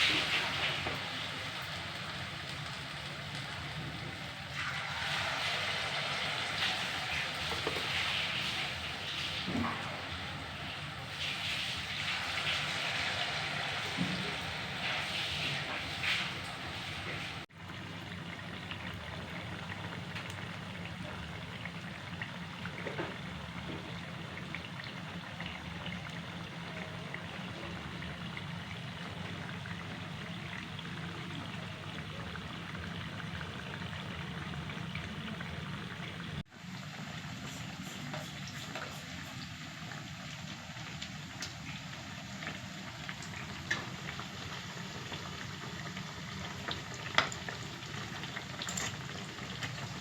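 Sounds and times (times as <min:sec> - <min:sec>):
fritters sizzling in hot oil: 0:00.0 - 0:50.0.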